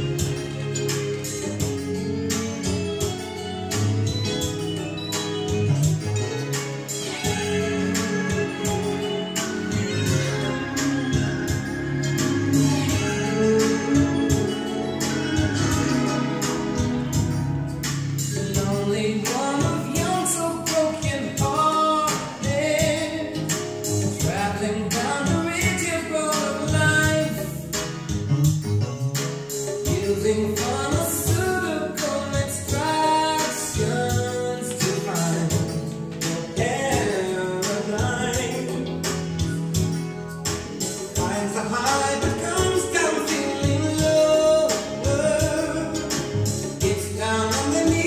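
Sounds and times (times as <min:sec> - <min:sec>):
music from vinyl record: 0:00.0 - 0:48.0.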